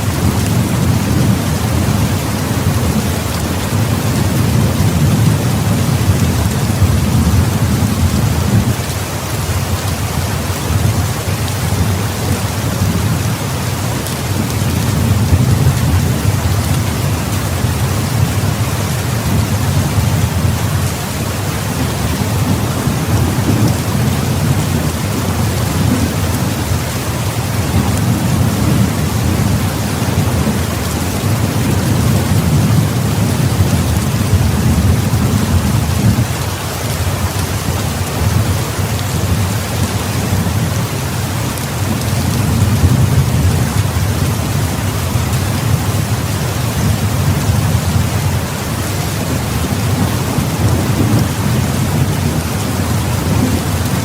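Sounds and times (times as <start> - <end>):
heavy rain pouring: 0.0 - 54.0
rolling thunder rumble: 0.0 - 54.0.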